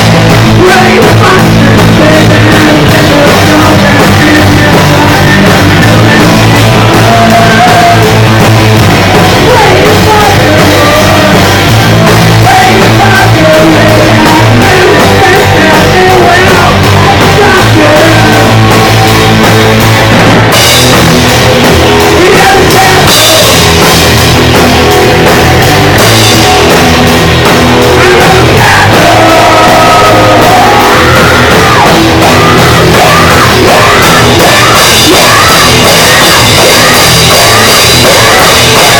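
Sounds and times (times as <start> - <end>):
shouted singing: 0.0 - 24.2, 24.8 - 38.9
drums: 0.0 - 38.9
guitars: 0.0 - 38.9.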